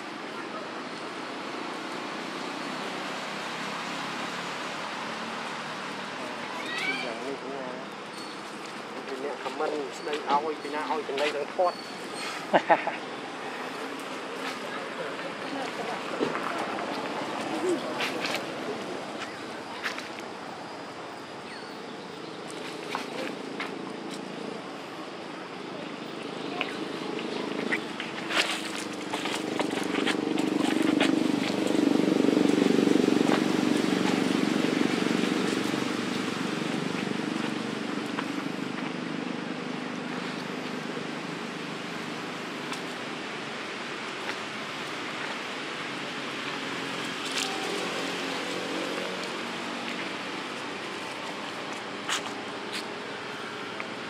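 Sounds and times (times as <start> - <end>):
outdoor rushing background noise: 0.0 - 54.0.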